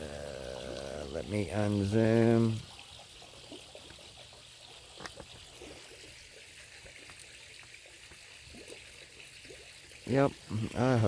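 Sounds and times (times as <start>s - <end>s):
trickle of running water: 0.0s - 11.0s.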